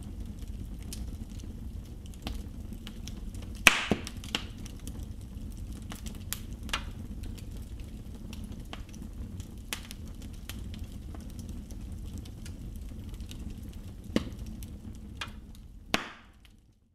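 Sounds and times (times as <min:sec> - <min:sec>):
logs crackling in a fireplace: 0:00.0 - 0:16.9.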